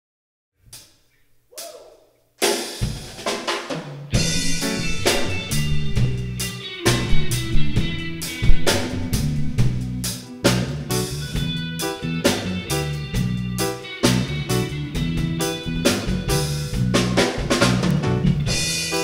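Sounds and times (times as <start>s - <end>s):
drum kit: 1.6s - 19.0s
live reggae band playing: 2.4s - 19.0s.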